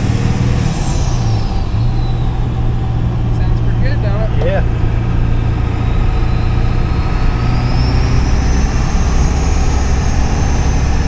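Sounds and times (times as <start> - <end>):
diesel engine drone: 0.0 - 11.0
turbo whine: 0.0 - 11.0.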